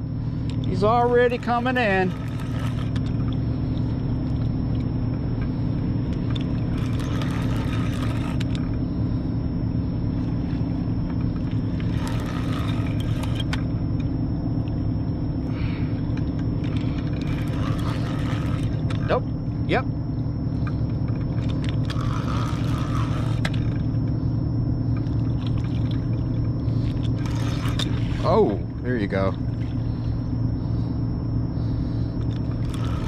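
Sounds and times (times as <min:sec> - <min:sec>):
ship engine drone: 0:00.0 - 0:33.0
fishing reel whirring and clicking: 0:00.4 - 0:08.9, 0:10.1 - 0:19.3, 0:20.5 - 0:30.4, 0:32.0 - 0:33.0.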